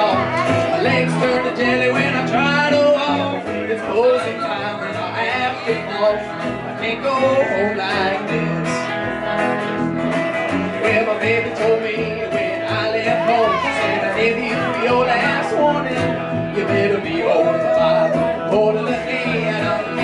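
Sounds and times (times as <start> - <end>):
person singing: 0.0 - 9.8, 10.5 - 20.0
plucked upright bass: 0.0 - 20.0
strummed acoustic guitar: 0.0 - 20.0.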